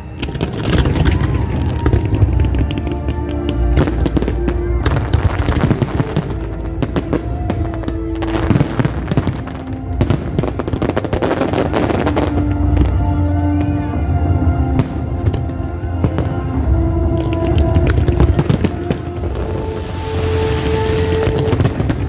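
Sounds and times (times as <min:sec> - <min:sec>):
fireworks bangs and crackles: 0:00.0 - 0:13.8, 0:14.7 - 0:22.0
music playing: 0:00.0 - 0:22.0.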